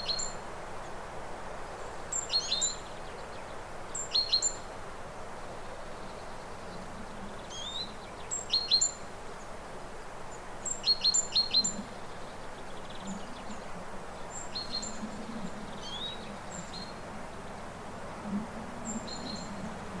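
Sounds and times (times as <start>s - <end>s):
steady background hiss: 0.0s - 20.0s
hummingbirds chirping: 1.8s - 20.0s.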